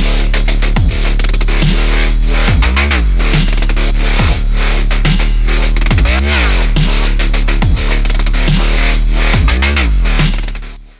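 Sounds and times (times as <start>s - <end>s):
dubstep music with heavy beat: 0.0s - 10.9s.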